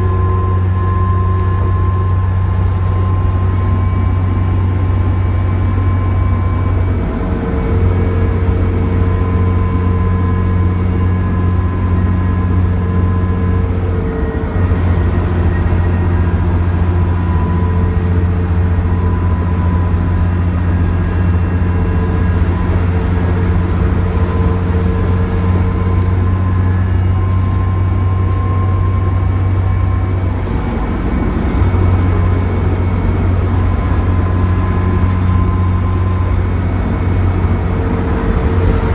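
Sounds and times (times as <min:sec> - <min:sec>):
bus diesel engine droning: 0:00.0 - 0:38.9
road noise: 0:00.0 - 0:38.9.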